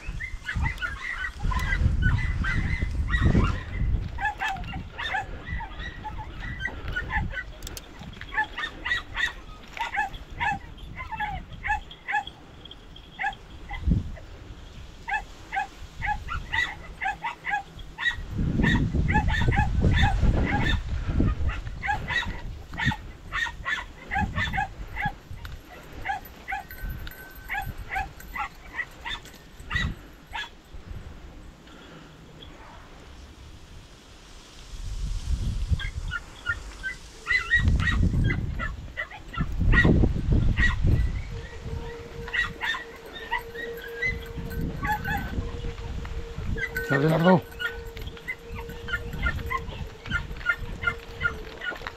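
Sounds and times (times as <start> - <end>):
hounds yelping: 0.0 - 14.3, 15.0 - 30.6, 35.8 - 51.9.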